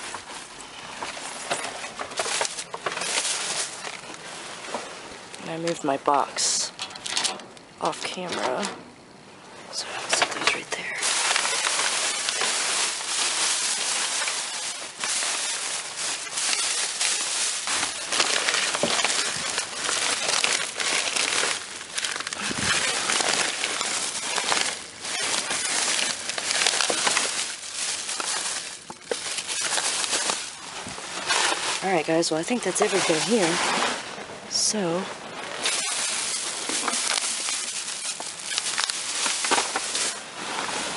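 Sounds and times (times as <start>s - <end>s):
plastic and paper rustling: 0.0s - 8.7s, 9.7s - 40.9s.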